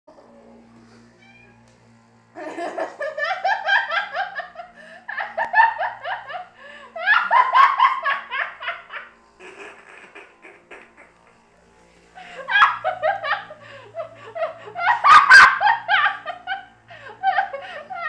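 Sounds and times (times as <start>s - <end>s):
person laughing hard: 2.4s - 11.4s, 12.2s - 18.0s.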